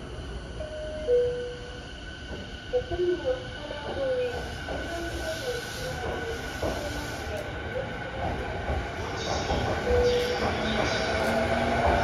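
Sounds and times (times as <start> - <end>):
electric train running noise: 0.0 - 12.0.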